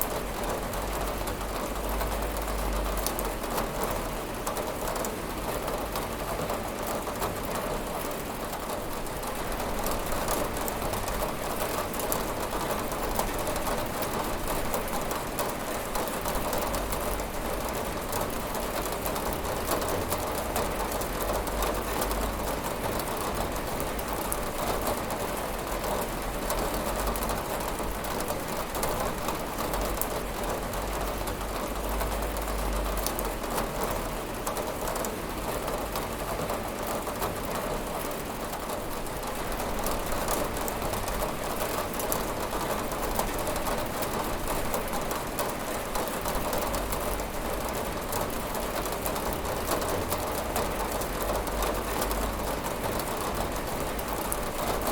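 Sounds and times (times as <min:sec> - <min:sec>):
rain beating on a window pane: 0:00.0 - 0:54.9.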